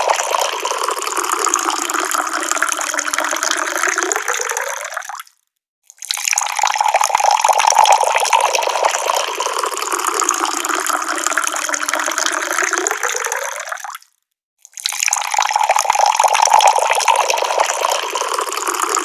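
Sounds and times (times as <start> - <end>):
water running from a tap: 0.0 - 4.6, 6.1 - 13.3, 14.8 - 19.0.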